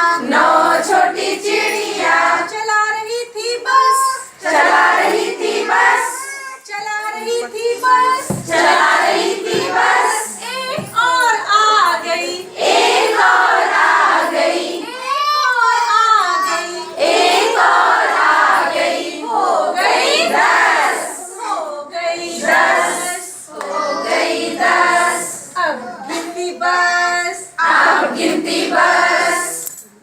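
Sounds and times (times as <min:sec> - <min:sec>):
children singing together: 0:00.0 - 0:06.7, 0:07.6 - 0:11.1, 0:11.8 - 0:29.6.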